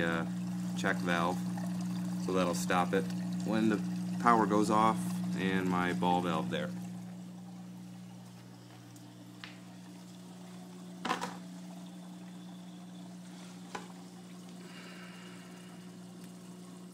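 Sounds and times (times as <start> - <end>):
aquarium pumps humming: 0.0 - 16.9
bubbling water: 0.0 - 16.9.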